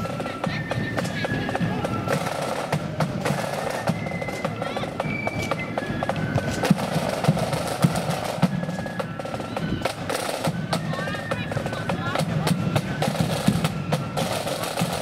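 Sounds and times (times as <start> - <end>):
snare drums rattling: 0.0 - 15.0.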